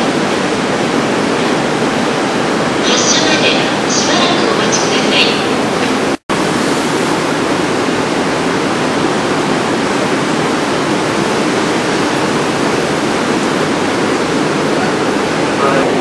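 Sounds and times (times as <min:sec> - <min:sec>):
station platform rushing noise: 0:00.0 - 0:16.0.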